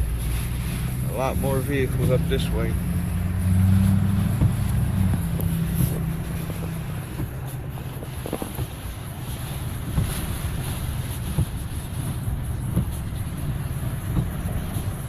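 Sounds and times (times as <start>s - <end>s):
engine and tyres rumbling: 0.0s - 15.0s
hiss of water and wind: 0.0s - 15.0s.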